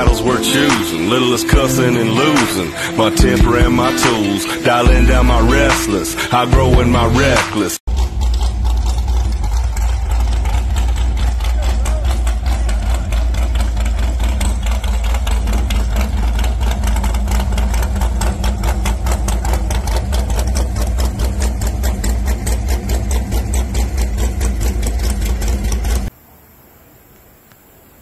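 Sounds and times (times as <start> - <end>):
boat engine idling: 0.0 - 7.3, 7.9 - 26.1.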